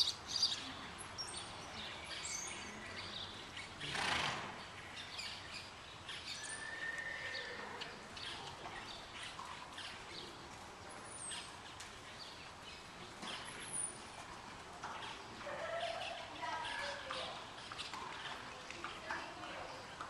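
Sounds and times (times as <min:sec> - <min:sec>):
faint steady background noise: 0:00.0 - 0:20.0
small birds chirping: 0:00.0 - 0:20.0.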